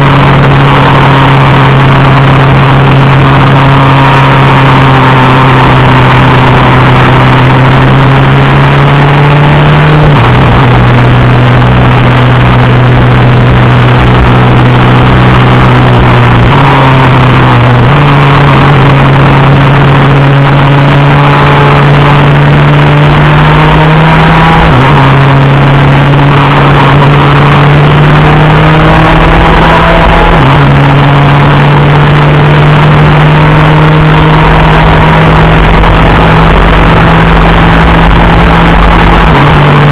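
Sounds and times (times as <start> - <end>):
kart engine revving and shifting: 0.0 - 39.9
wind and road noise: 0.0 - 39.9.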